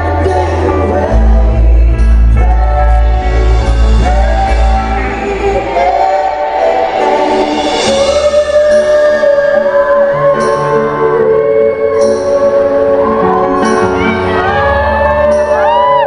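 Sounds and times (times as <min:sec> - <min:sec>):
live band playing pop ballad: 0:00.0 - 0:16.0.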